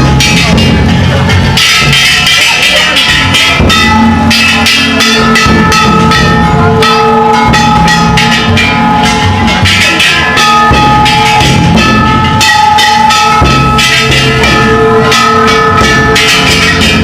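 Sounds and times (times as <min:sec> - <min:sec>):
hand gongs ringing: 0:00.0 - 0:17.0
large taiko drum beating: 0:00.0 - 0:17.0.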